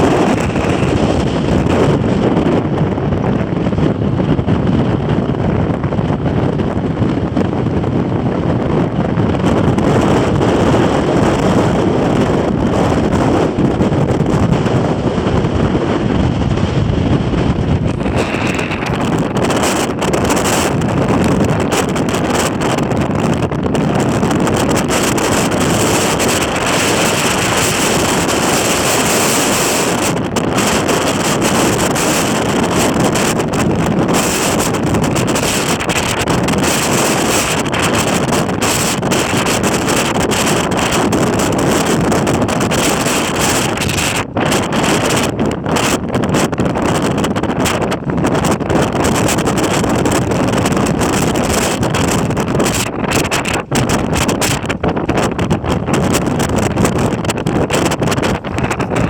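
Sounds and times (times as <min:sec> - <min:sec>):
strong wind on microphone: 0:00.0 - 0:59.0.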